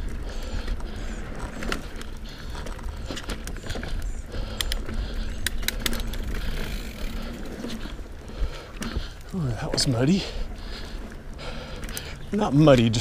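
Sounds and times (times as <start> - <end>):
bike chain and frame rattling: 0.0 - 13.0
bike tyres rolling on dirt: 0.0 - 13.0.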